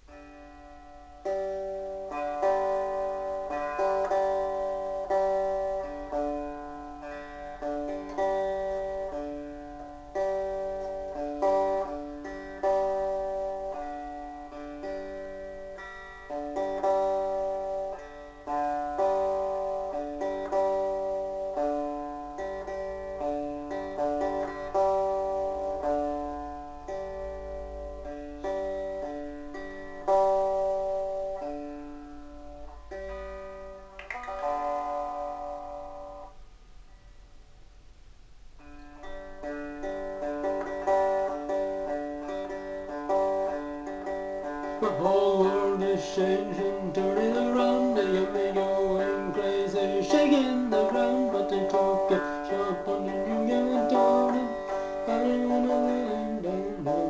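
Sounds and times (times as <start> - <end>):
electric guitar picked chords: 0.0 - 57.0.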